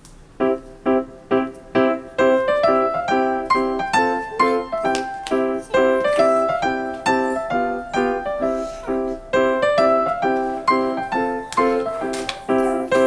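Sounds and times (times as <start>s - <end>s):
keyboard music with piano chords: 0.0s - 13.0s.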